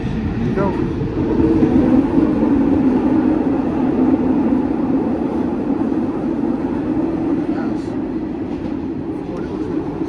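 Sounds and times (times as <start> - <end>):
subway train rumbling in tunnel: 0.0 - 10.0.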